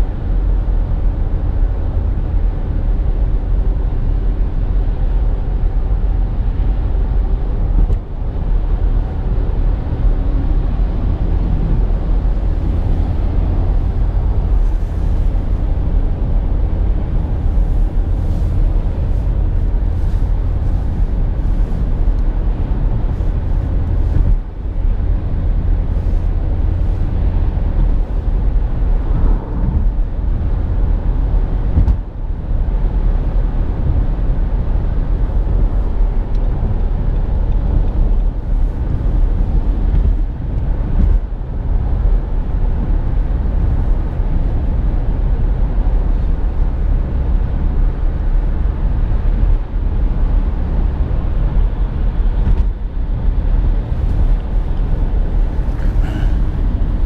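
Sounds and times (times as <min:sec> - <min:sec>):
moving car rumble: 0:00.0 - 0:57.0.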